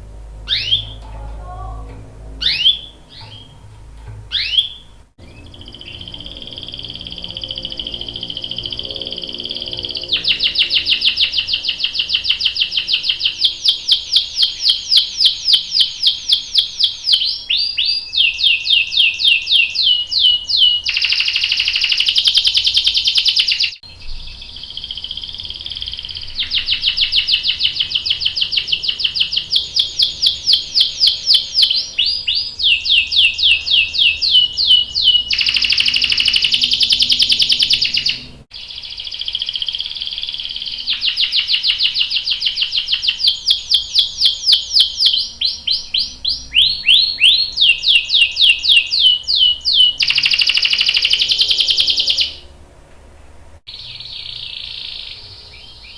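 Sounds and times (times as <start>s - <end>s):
canary trilling: 0.0s - 52.5s, 53.7s - 55.9s.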